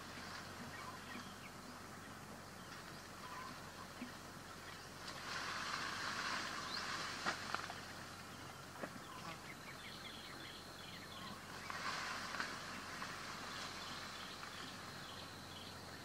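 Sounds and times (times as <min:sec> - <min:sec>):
haze of noise: 0:00.0 - 0:16.0.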